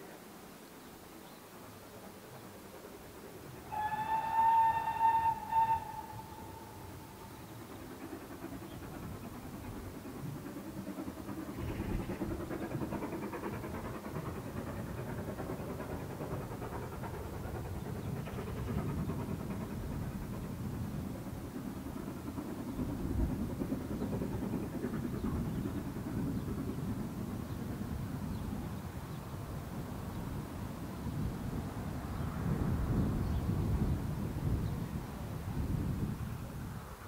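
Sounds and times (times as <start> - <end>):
distant steam locomotive rumble: 0.0 - 37.0.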